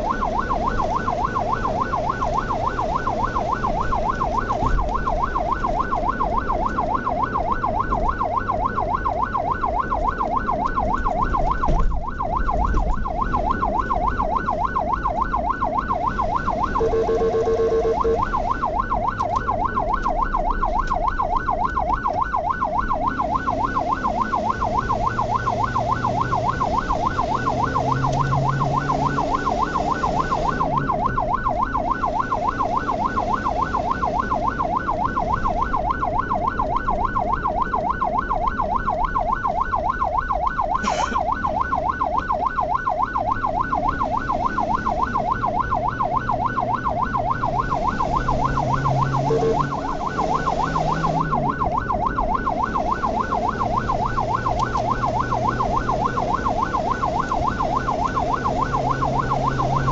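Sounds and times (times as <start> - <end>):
ambulance siren yelping: 0.0 - 59.9
engine and road noise: 0.0 - 59.9.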